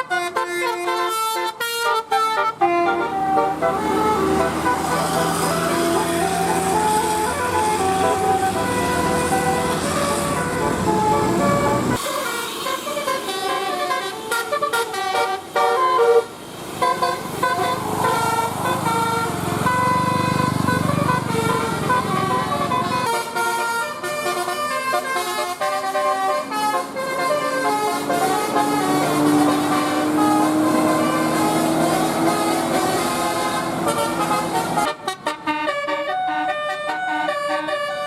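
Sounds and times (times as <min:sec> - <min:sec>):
musical air horn playing a tune: 0:00.0 - 0:38.0.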